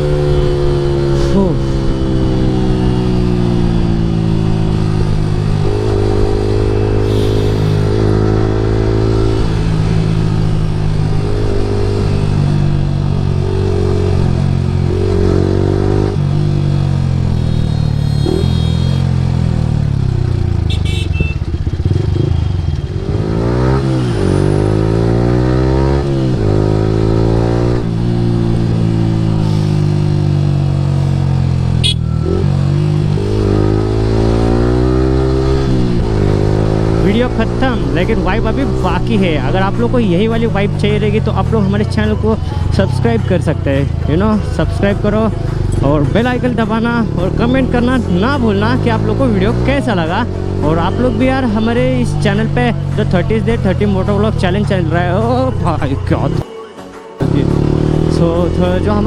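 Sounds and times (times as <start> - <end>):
motorcycle engine revving: 0.0 - 56.5, 57.2 - 59.0.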